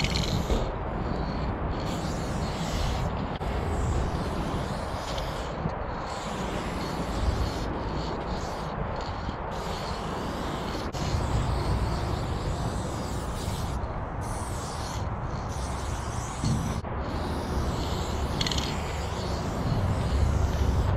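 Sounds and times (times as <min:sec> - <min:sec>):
spray-paint can hissing: 0:00.0 - 0:20.9
steady low rumble: 0:00.0 - 0:20.9.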